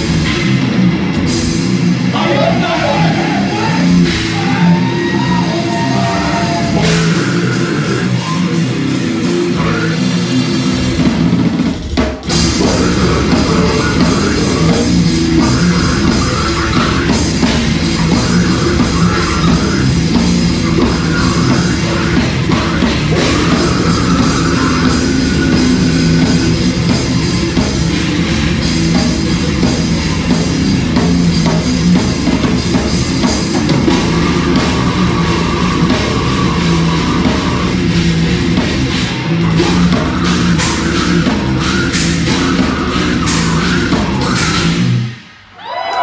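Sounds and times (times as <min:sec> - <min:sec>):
heavy metal band playing: 0:00.0 - 0:46.0.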